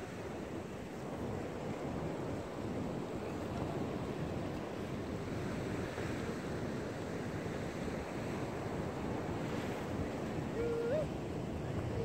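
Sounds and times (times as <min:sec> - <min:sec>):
ocean surf washing: 0:00.0 - 0:12.0.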